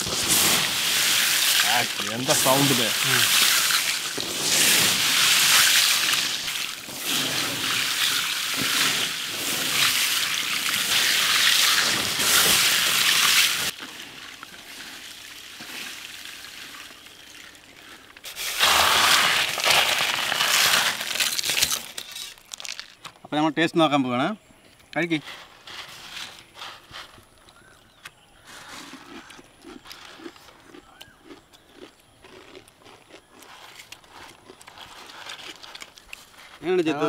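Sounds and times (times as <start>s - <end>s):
hands mixing crunchy snack: 0.0s - 16.7s, 17.6s - 23.0s, 28.5s - 37.0s.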